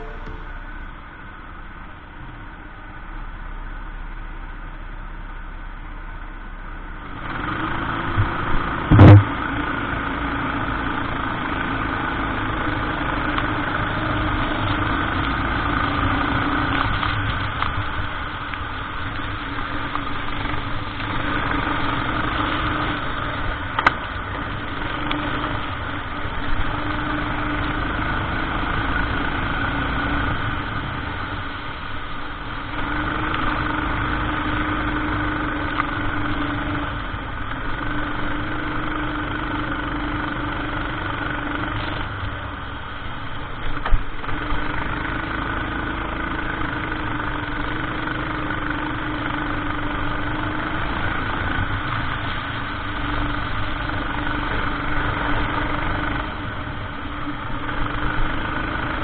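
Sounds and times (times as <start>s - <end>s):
kart engine running: 0.0s - 5.4s, 6.0s - 59.0s.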